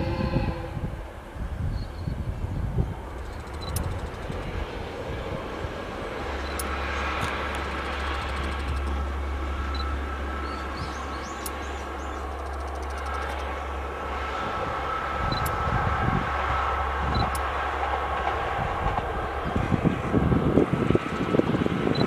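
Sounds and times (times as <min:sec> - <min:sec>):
diesel train approaching: 0:00.0 - 0:22.0
low buffeting: 0:00.0 - 0:22.0.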